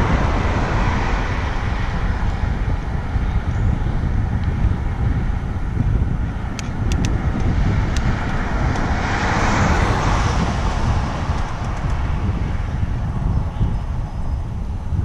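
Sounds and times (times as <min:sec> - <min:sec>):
tyre noise of passing vehicle: 0:00.0 - 0:15.0
wind rumbling on microphone: 0:00.0 - 0:15.0.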